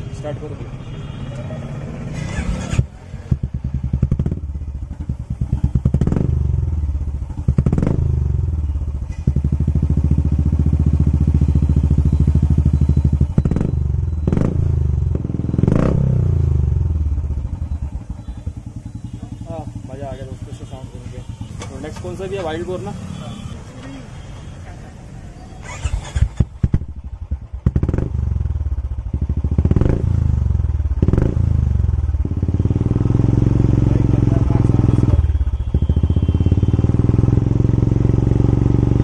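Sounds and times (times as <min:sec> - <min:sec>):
motorcycle engine idling and revving: 0:00.0 - 0:39.0.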